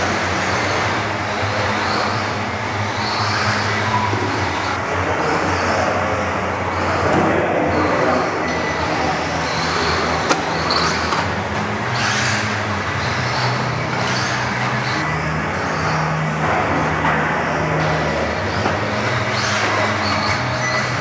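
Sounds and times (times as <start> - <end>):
steady low hum: 0.0 - 21.0
toy car motors whining: 0.0 - 21.0.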